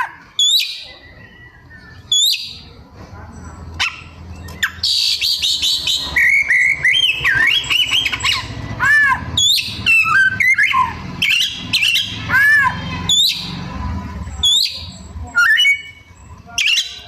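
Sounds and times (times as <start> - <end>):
bird singing varied song: 0.0 - 2.9, 3.8 - 17.0.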